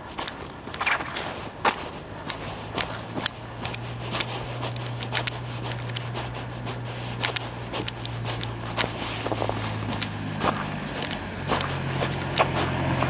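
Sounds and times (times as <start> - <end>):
footsteps on snow: 0.0 - 13.0
steady low hum: 1.4 - 13.0.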